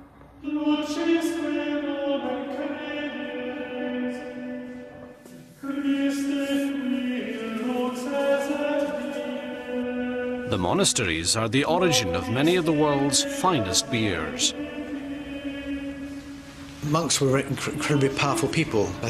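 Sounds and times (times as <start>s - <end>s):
choral chant: 0.4s - 19.0s.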